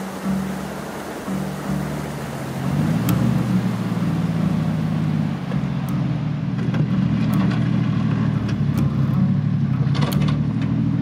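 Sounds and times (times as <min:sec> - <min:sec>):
truck engine at low revs: 0:00.0 - 0:11.0.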